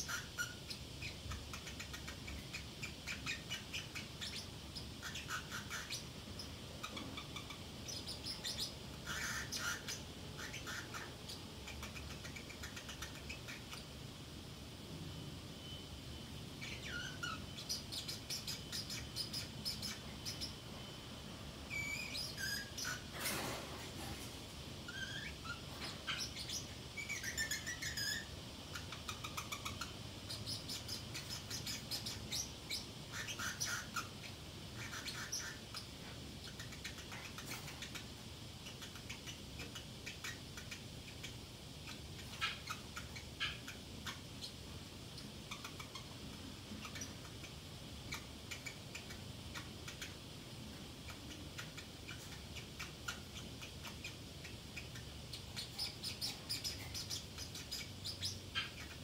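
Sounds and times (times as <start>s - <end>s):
parrot chattering: 0.0s - 14.0s, 16.6s - 20.9s, 21.7s - 23.4s, 24.9s - 59.0s.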